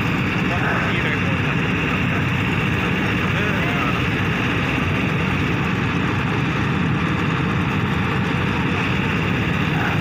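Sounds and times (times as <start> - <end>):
excavator diesel engine: 0.0 - 10.0.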